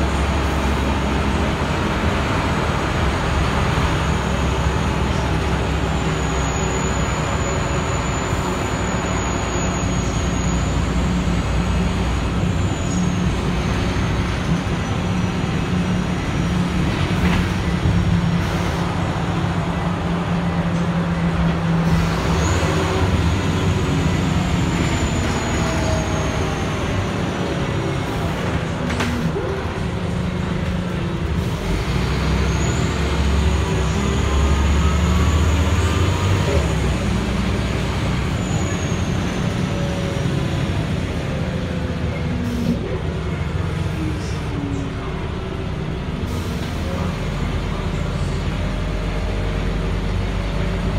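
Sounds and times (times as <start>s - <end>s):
bus diesel engine droning: 0.0s - 50.9s
tyre and road noise: 0.0s - 50.9s.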